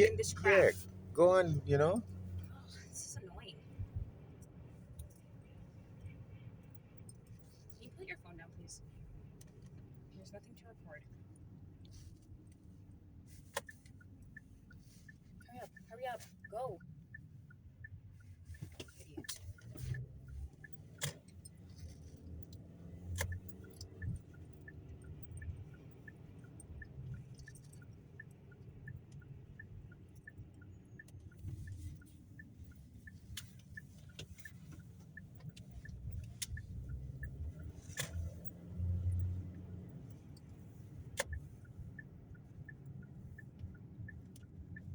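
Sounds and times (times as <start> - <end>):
car engine and tyres rumble: 0.0 - 44.9
turn signal ticking: 0.0 - 44.9.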